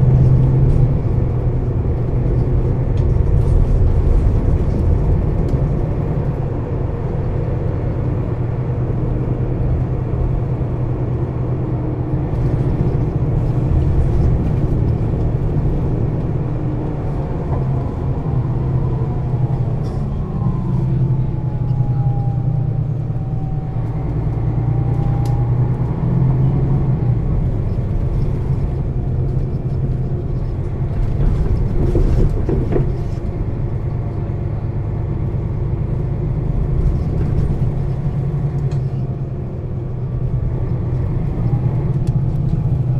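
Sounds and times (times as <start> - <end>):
bus engine idling: 0.0 - 42.9.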